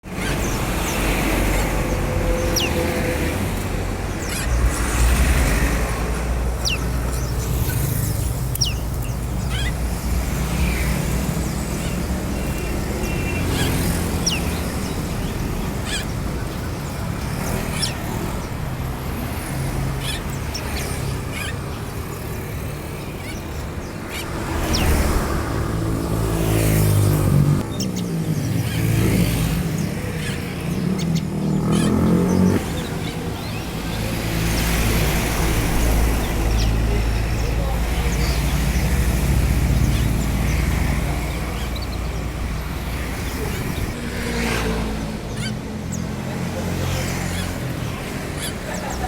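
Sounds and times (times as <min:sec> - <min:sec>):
road traffic rumble: 0:00.0 - 0:49.0
songbirds chirping: 0:00.0 - 0:49.0
vehicle passing: 0:00.1 - 0:49.0.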